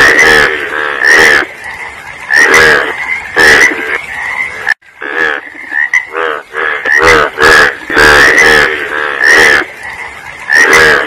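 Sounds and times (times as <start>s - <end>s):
frogs croaking: 0.0s - 11.0s.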